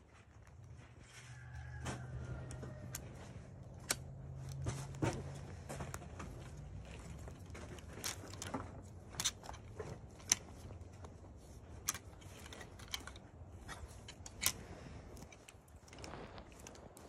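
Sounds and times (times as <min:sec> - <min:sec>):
faint low rumble: 0:00.0 - 0:17.0
light scraping or rustling: 0:00.0 - 0:17.0.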